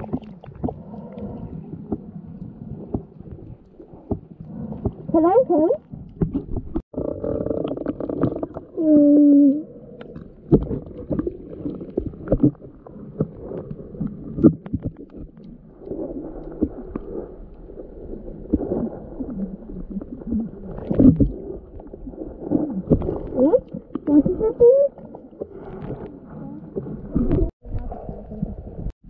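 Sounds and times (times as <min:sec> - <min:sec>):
water gurgling underwater: 0:00.0 - 0:28.9.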